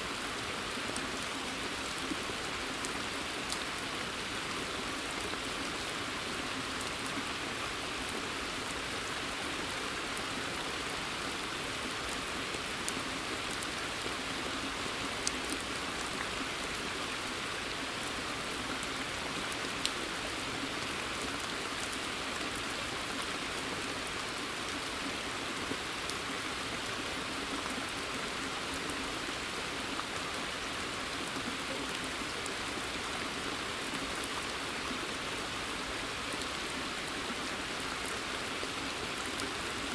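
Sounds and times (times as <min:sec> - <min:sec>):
rain falling on a pond: 0:00.0 - 0:39.9.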